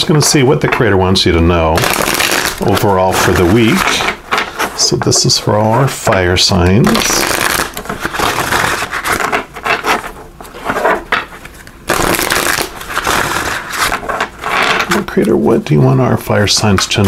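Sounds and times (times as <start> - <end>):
cards being shuffled: 1.7 - 15.5.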